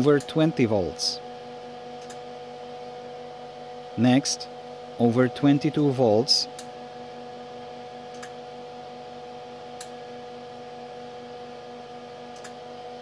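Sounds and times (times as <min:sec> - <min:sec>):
welder transformer humming: 0:00.0 - 0:13.0.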